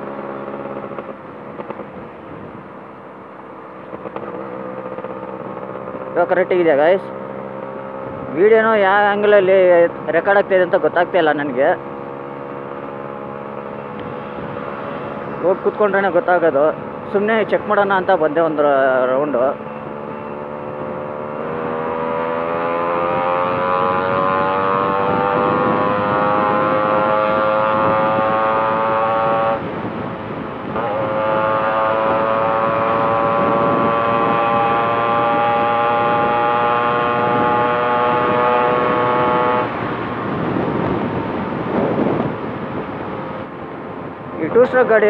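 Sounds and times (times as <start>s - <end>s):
two-stroke motorcycle engine: 0.0s - 45.0s.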